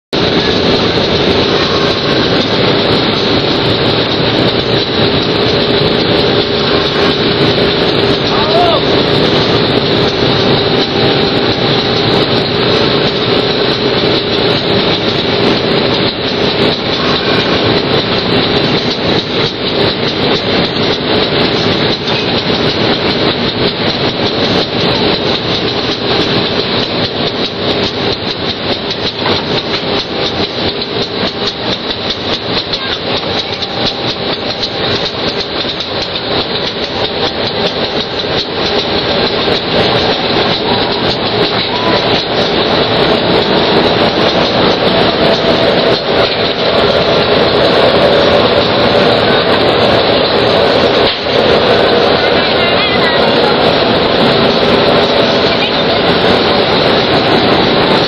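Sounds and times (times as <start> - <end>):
locomotive engine running loudly: 0.0 - 58.0
wheels knocking over rail joint: 0.2 - 58.0.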